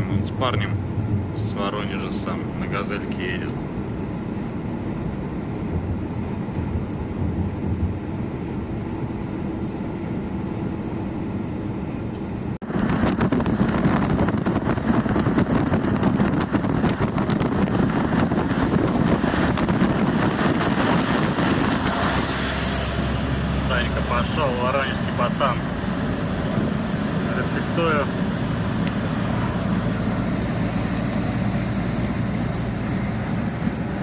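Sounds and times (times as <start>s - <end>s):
road noise: 0.0s - 34.0s
truck engine drone: 0.0s - 34.0s.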